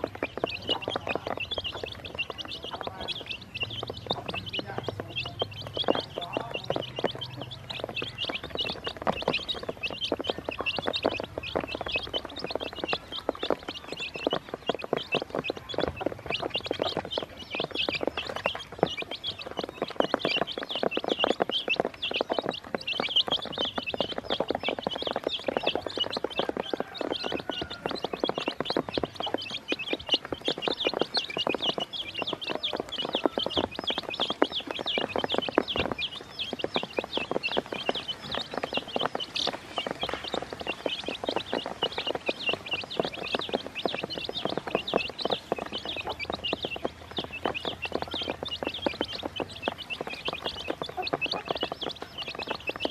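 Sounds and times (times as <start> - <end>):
baby chicks peeping: 0.0 - 52.9
beaks tapping on plastic: 0.0 - 52.9.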